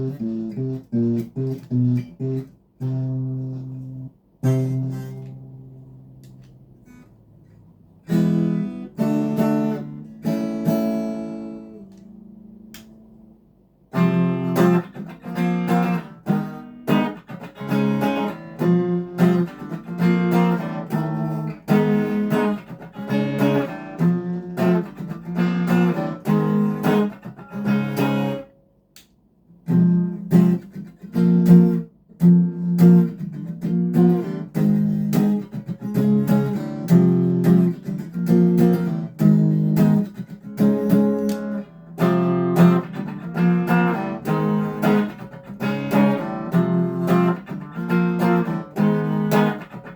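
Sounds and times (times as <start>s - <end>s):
clean electric guitar strumming: 0.0s - 7.2s, 13.9s - 28.5s, 29.6s - 49.9s.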